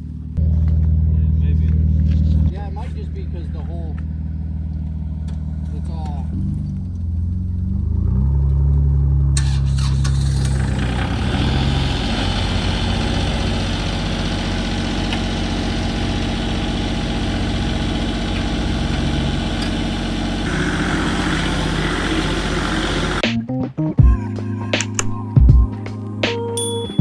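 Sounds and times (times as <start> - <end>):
vehicle engine idling: 0.0 - 23.3.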